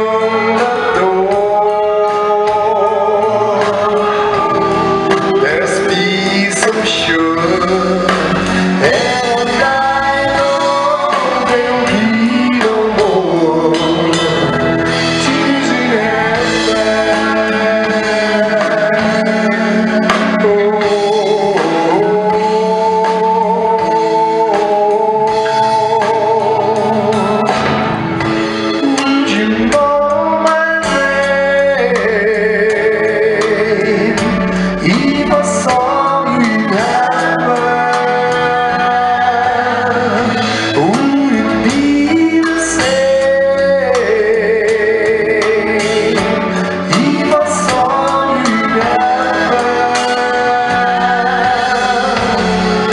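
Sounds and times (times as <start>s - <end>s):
man and woman singing: 0.0s - 27.7s, 28.8s - 52.9s
instrumental accompaniment: 0.0s - 52.9s.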